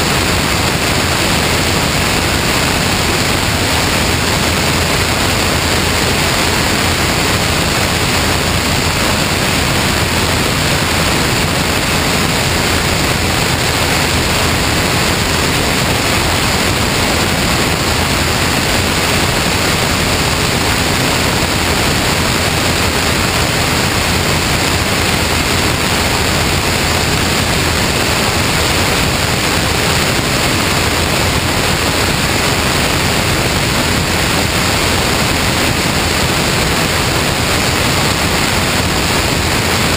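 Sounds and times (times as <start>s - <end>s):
rush of airflow: 0.0s - 39.9s.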